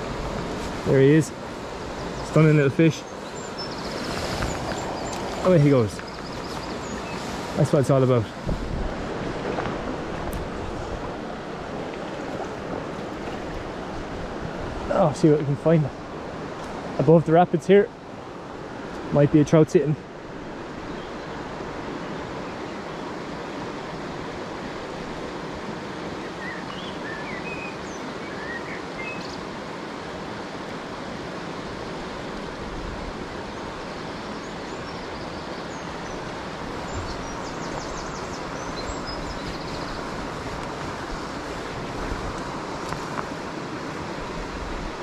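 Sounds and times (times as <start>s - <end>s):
river rushing over rapids: 0.0s - 45.0s.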